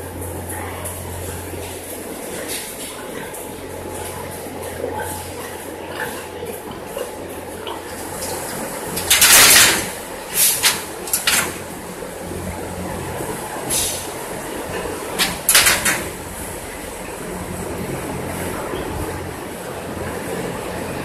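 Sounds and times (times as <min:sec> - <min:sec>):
ventilation fan humming: 0:00.0 - 0:21.0.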